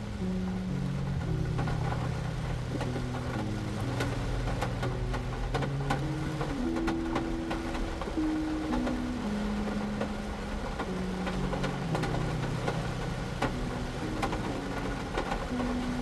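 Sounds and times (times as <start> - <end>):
slow low background music: 0.0 - 16.0.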